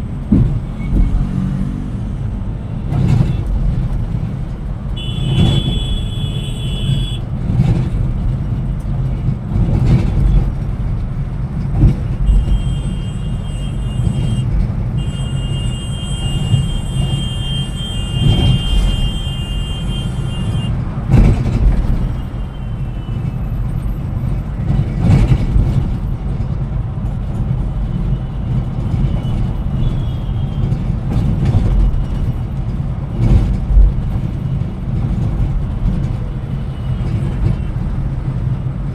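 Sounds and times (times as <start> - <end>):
coach engine and road rumble: 0.0 - 38.9.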